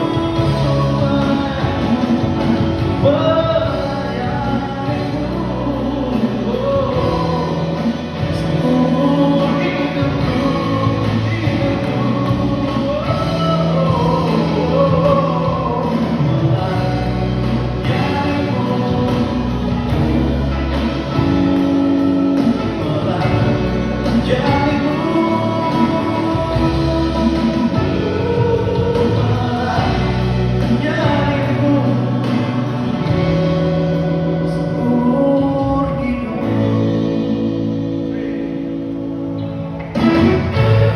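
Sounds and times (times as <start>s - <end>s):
live band and singers worship song: 0.0s - 40.9s
sustained bass notes: 0.0s - 40.9s.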